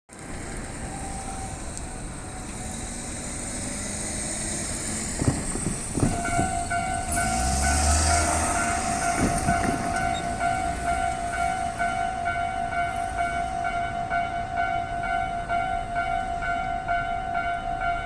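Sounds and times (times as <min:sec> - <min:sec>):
train running noise: 0:00.1 - 0:18.0
level crossing warning bell: 0:00.4 - 0:18.0.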